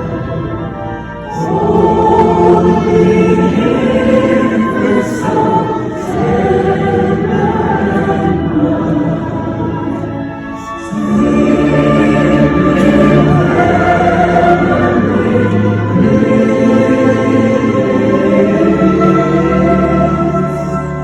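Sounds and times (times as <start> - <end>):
audience singing together: 0.0 - 21.0.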